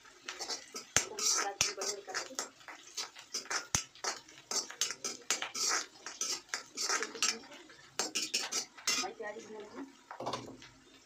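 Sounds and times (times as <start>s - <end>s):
metal spoon scraping a pan: 0.0s - 10.6s
food frying in oil: 0.0s - 11.0s.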